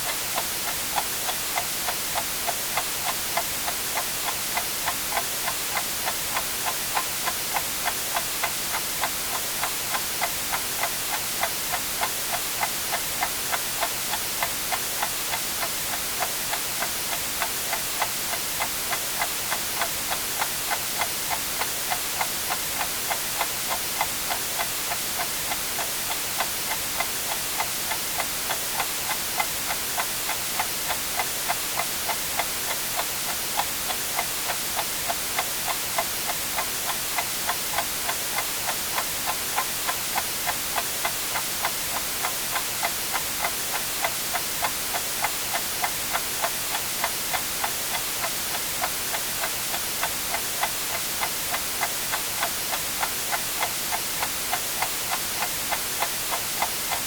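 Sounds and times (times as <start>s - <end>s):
white noise hiss: 0.0s - 57.0s
clock ticking: 0.3s - 57.0s.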